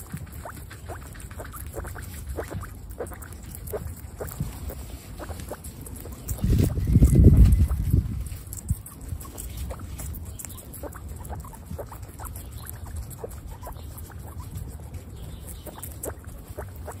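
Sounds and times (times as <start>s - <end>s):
guinea pigs crunching pepper: 0.0s - 17.0s.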